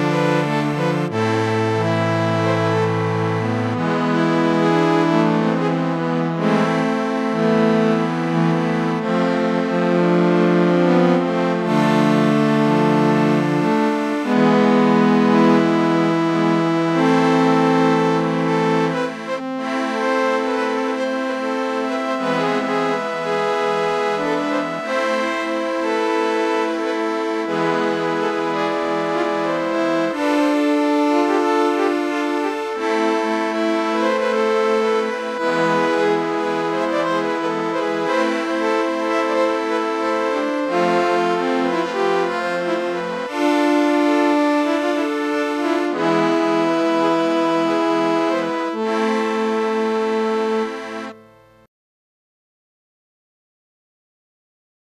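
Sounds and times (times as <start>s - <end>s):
slow accordion chords: 0.0s - 51.7s.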